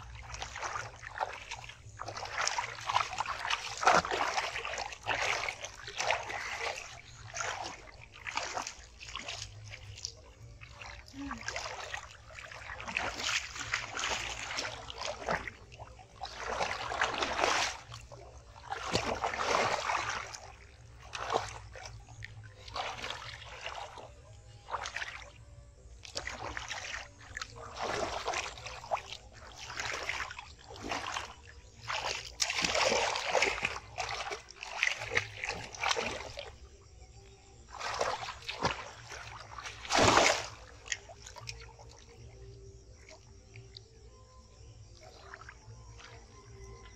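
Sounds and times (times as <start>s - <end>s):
splashing in muddy water: 0.0s - 46.9s.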